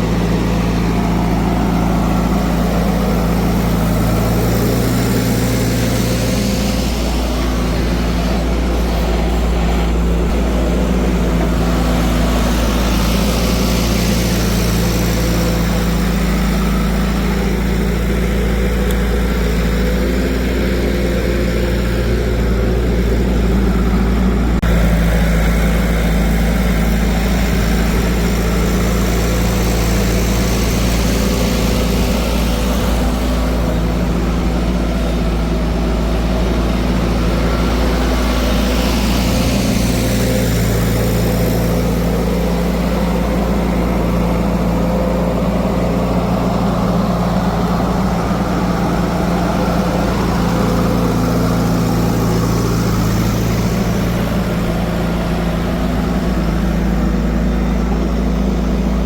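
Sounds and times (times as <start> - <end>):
heavy vehicle engine idling: 0.0 - 59.0.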